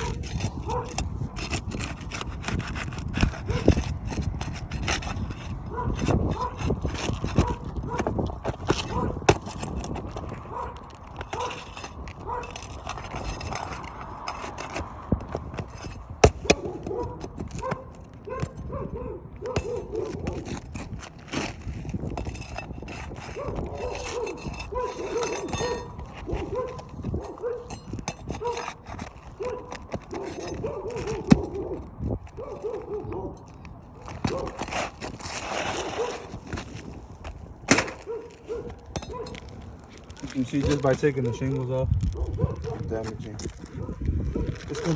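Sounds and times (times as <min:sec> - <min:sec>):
shingles squeaking and scraping: 0:00.0 - 0:44.9.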